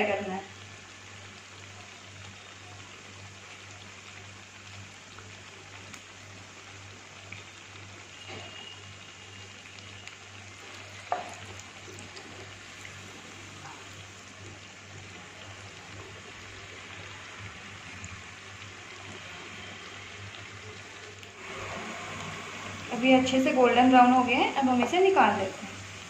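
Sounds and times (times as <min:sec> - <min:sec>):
food deep-frying in hot oil: 0:00.0 - 0:26.0.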